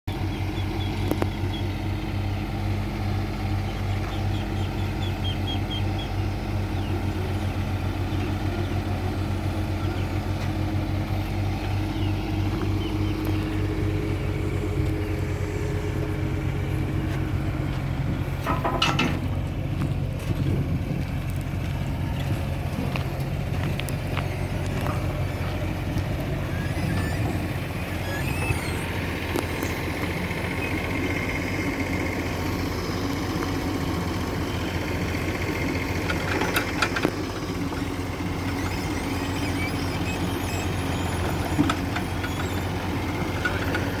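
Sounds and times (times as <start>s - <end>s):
engine running steadily: 0.1s - 44.0s.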